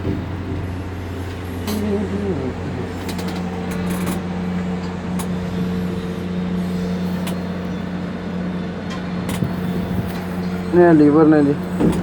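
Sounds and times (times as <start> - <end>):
electric hum of crane machinery: 0.0 - 12.0.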